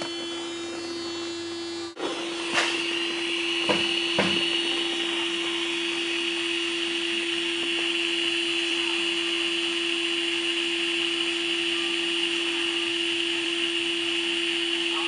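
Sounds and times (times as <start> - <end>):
hissing whir: 0.0 - 15.0
small electric motor humming: 0.0 - 15.0.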